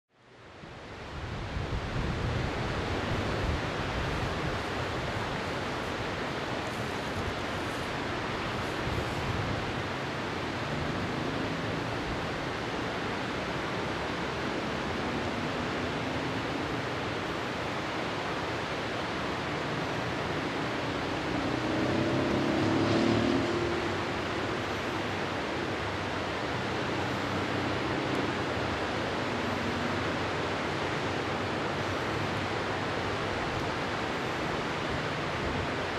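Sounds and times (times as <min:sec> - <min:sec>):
steady rushing noise: 0:00.1 - 0:35.9.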